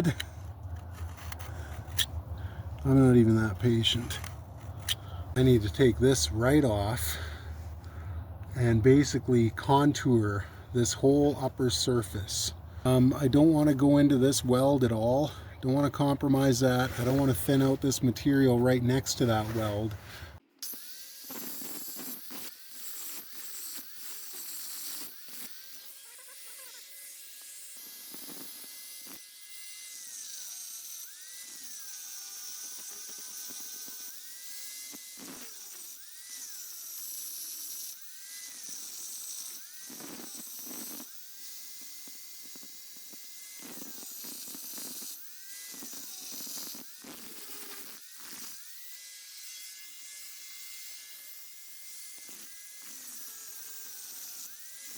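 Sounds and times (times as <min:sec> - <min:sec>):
grinder whining on metal: 0:00.0 - 0:07.7, 0:12.4 - 0:54.9.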